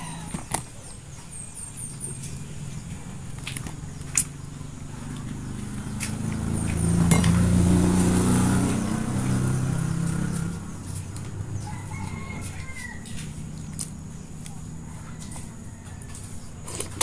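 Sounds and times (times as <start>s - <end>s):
vehicle engine passing: 1.3s - 17.0s.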